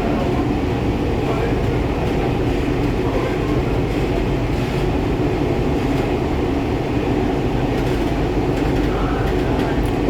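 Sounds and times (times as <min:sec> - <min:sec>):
metro train rumbling: 0:00.0 - 0:10.0.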